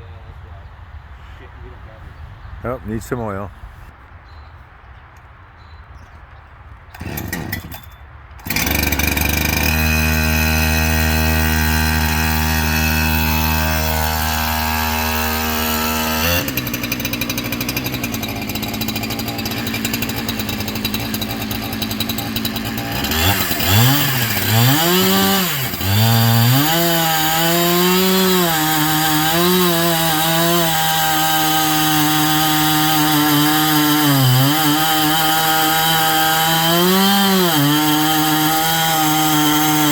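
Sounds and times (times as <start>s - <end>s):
chainsaw engine revving: 6.9s - 39.9s.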